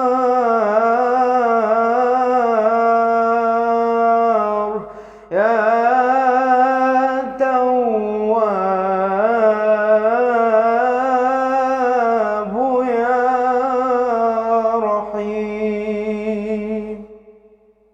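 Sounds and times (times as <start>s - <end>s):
man singing unaccompanied: 0.0s - 17.4s.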